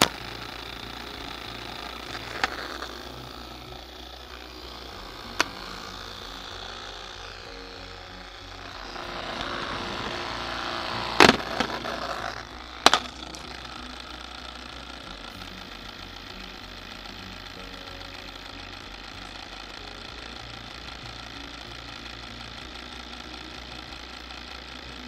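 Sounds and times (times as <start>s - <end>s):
small motors whirring: 0.0s - 25.0s.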